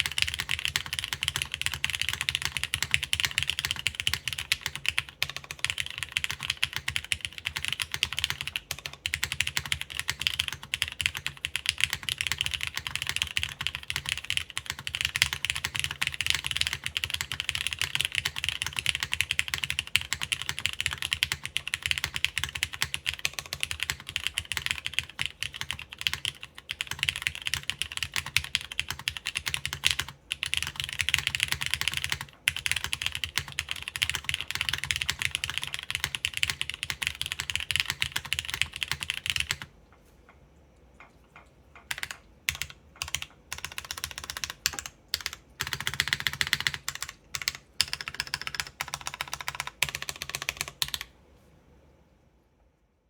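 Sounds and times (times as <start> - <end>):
mechanical keyboard typing: 0.0 - 39.7, 41.0 - 51.1.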